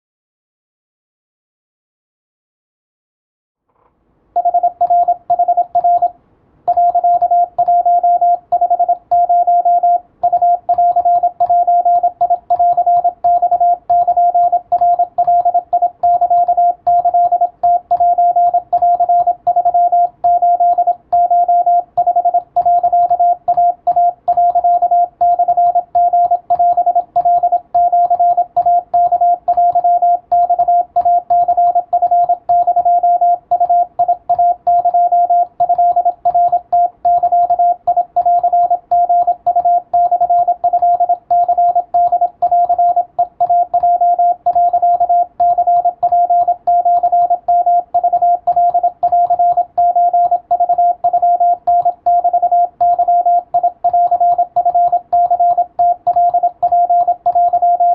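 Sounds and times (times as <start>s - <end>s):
morse code beeps: 4.4s - 6.1s, 6.7s - 57.9s.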